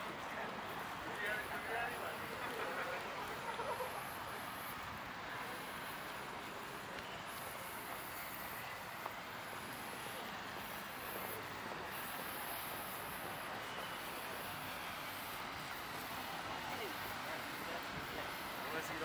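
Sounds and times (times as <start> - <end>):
city street rumble and hiss: 0.0 - 19.0.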